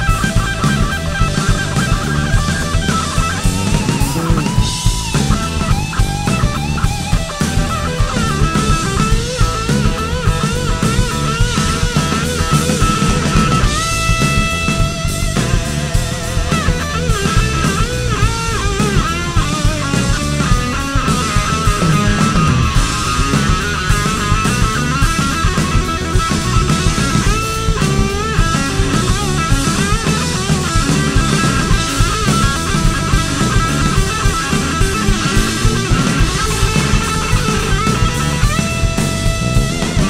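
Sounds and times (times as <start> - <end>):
band with drums: 0.0 - 40.0
electric guitar solo with bent notes: 0.0 - 40.0.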